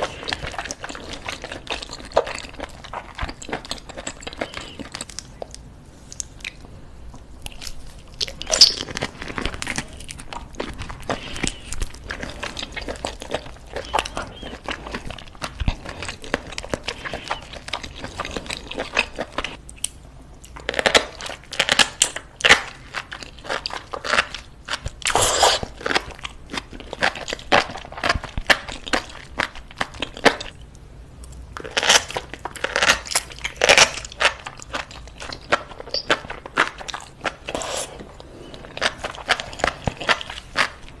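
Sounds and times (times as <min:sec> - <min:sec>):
person chewing with clicks and smacks: 0:00.0 - 0:41.0.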